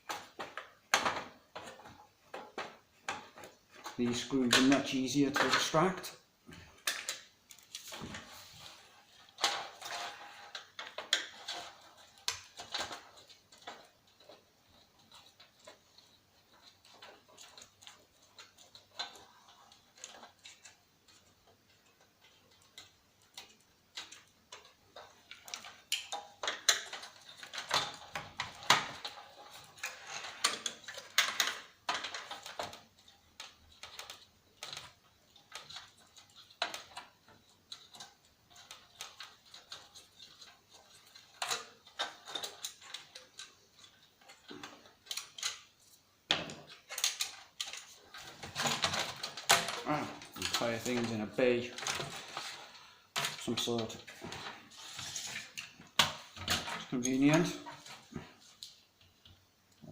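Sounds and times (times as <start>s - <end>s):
parts being handled: 0.0s - 59.9s.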